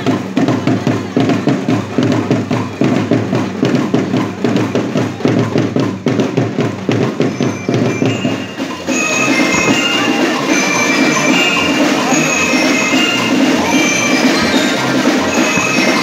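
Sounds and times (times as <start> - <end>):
bass drums playing fast rhythm: 0.0 - 16.0.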